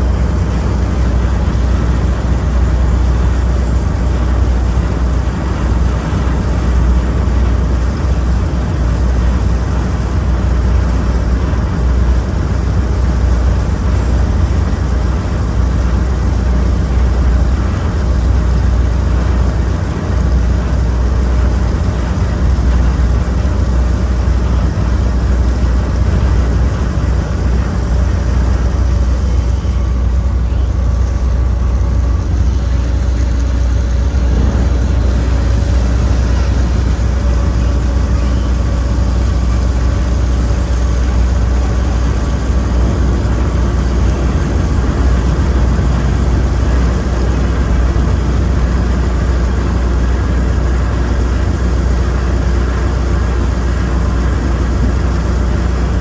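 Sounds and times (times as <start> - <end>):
broad rushing noise: 0.0 - 56.0
ship engines rumbling: 0.0 - 56.0.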